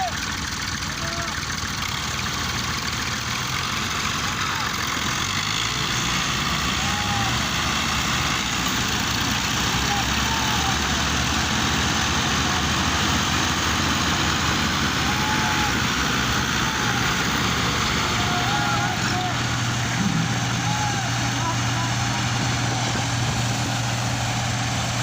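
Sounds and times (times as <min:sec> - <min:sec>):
tractor diesel engines droning: 0:00.0 - 0:25.0.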